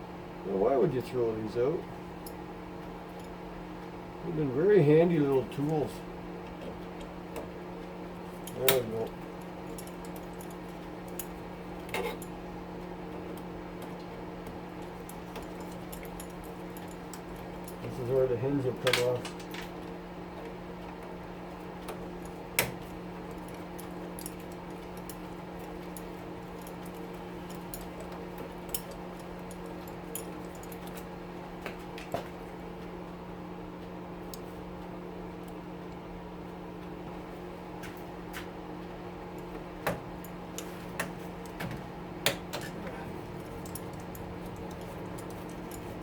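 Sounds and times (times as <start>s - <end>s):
steady fan hum: 0.0s - 46.0s.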